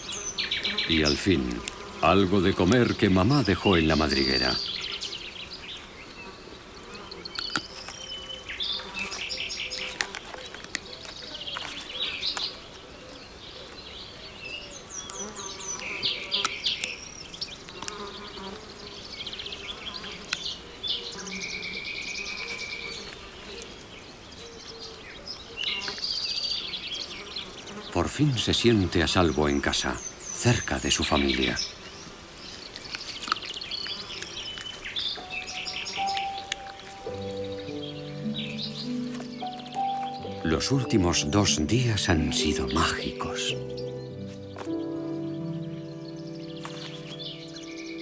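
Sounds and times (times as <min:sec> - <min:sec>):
faint insect drone: 0:00.0 - 0:13.4, 0:14.1 - 0:40.6
songbirds chirping and trilling: 0:00.0 - 0:48.0.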